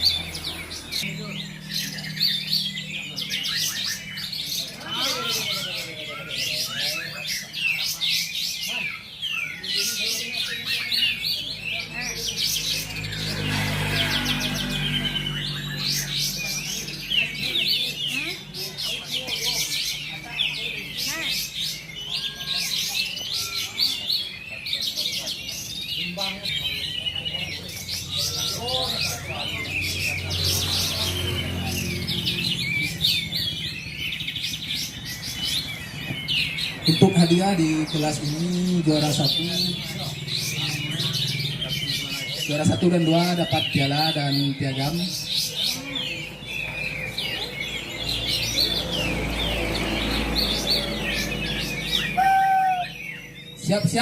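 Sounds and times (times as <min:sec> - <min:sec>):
low background murmur: 0:00.0 - 0:54.0
songbirds chorus: 0:00.0 - 0:54.0.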